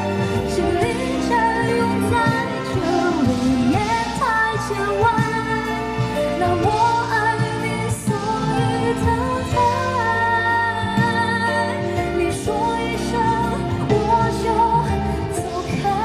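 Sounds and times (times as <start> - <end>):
instrumental backing: 0.0 - 16.0
woman singing into a microphone: 0.0 - 16.0.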